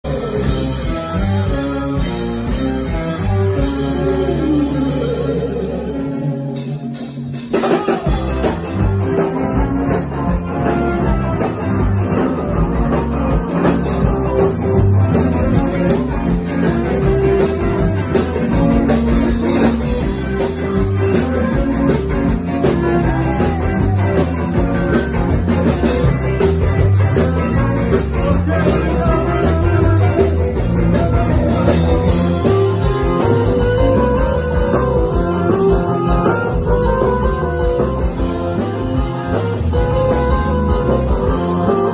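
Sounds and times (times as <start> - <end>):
drums: 0.0 - 41.9
live rock band playing: 0.0 - 41.9
guitar passage: 0.1 - 41.9.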